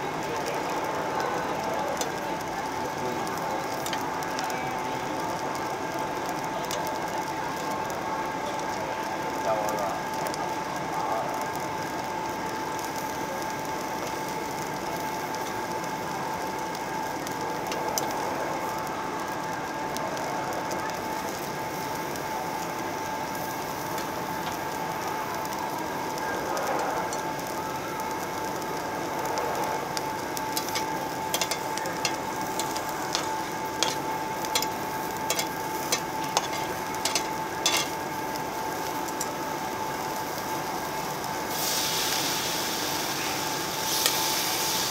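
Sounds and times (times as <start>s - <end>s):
vegetables sizzling on a grill plate: 0.0s - 44.9s.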